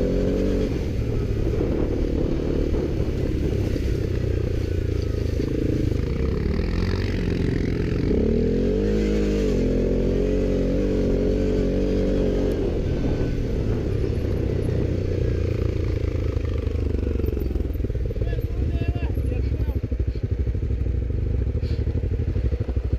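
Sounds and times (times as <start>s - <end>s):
atv engine revving: 0.0s - 22.9s.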